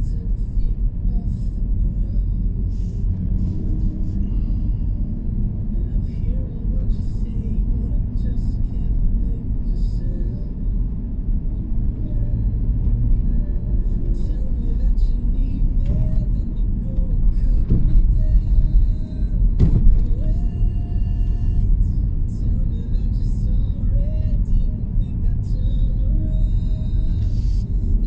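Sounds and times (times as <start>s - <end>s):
car engine and tyres rumbling: 0.0s - 28.0s.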